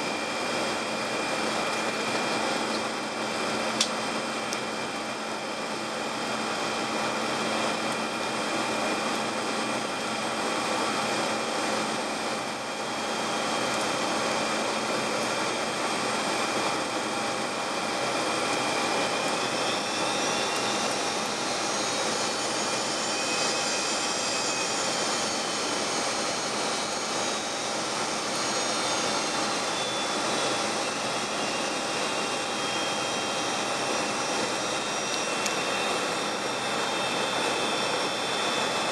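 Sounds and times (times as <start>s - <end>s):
aircraft engine whine: 0.0s - 38.9s
faint high whine: 0.0s - 38.9s.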